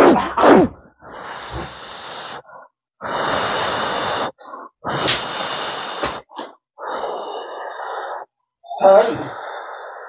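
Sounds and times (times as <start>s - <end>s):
person exhaling forcefully: 0.0s - 8.2s.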